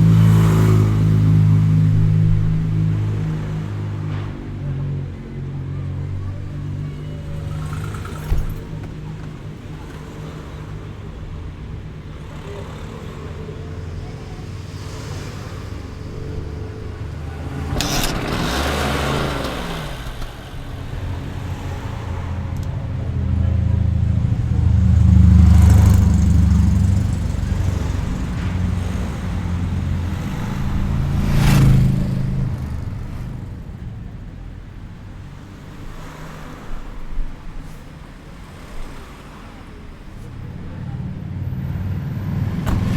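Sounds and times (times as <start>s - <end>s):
traffic rumble: 0.0s - 42.9s
vehicles passing close by: 0.0s - 42.9s.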